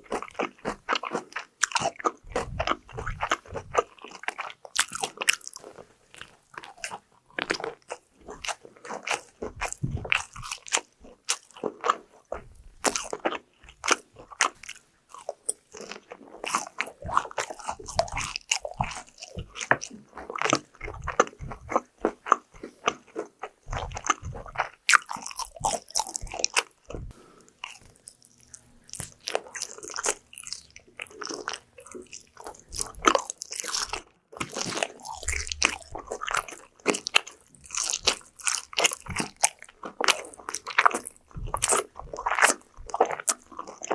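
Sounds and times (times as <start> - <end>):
chewing: 0.0 - 43.9
crunchy food bites: 0.0 - 43.9.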